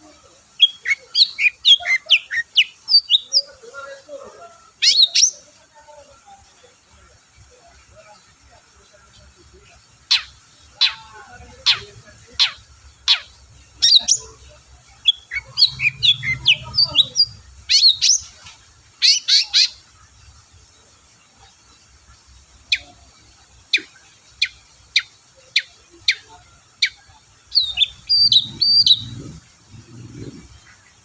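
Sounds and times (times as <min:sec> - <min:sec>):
bird singing: 0:00.0 - 0:31.0.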